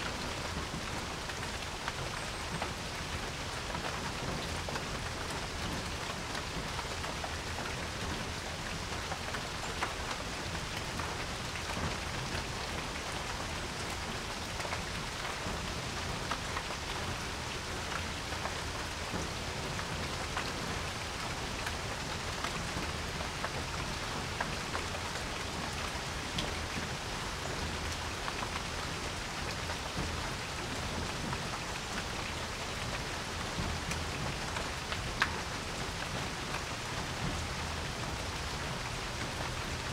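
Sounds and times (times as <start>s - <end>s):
rain pattering on porch: 0.0s - 39.9s.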